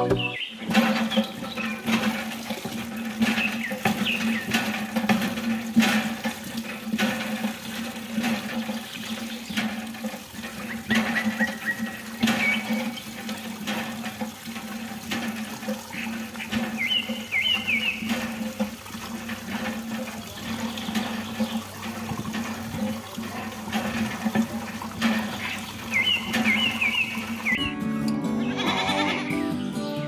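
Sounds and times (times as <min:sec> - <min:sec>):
water stream splashing into pool: 0:00.4 - 0:27.6.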